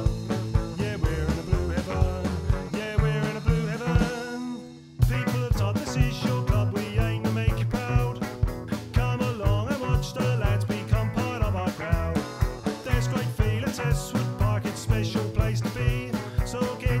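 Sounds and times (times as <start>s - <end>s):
drum hit: 0.0s - 17.0s
rock song with singing: 0.0s - 17.0s.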